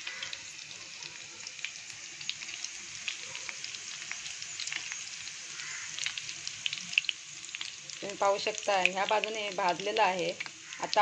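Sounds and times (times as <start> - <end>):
frying sizzle with crackles: 0.0 - 11.0.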